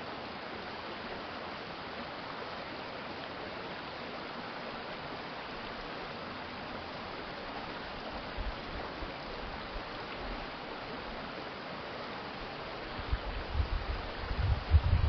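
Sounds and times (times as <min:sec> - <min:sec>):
stream water babbling: 0:00.0 - 0:15.0.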